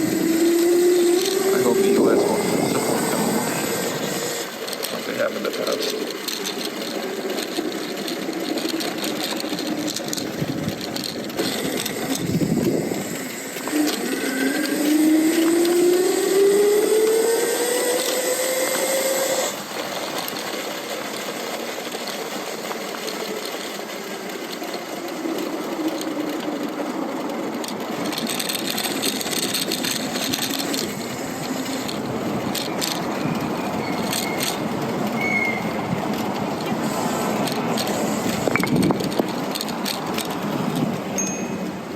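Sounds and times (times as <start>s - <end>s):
electric motor whining: 0.0s - 20.5s, 27.6s - 40.8s
wind and road noise: 0.0s - 41.9s.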